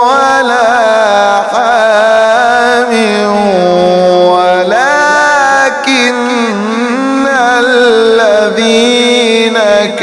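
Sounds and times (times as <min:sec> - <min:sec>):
man chanting melodic recitation: 0:00.0 - 0:10.0.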